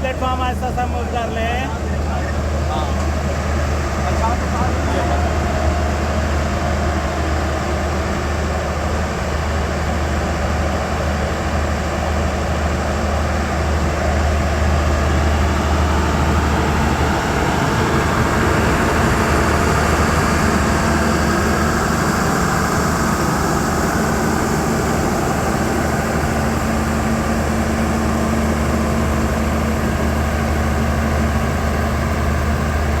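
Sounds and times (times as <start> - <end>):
diesel train engine drone: 0.0 - 33.0
train rolling noise: 0.0 - 33.0.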